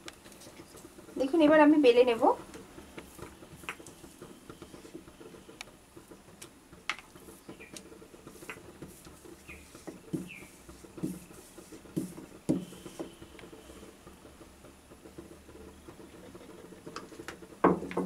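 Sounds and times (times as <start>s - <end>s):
rolling pin rolling dough: 0.0s - 18.0s.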